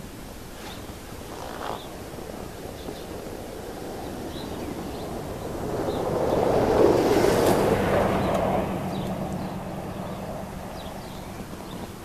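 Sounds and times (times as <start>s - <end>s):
truck driving past on snow: 1.2s - 12.0s.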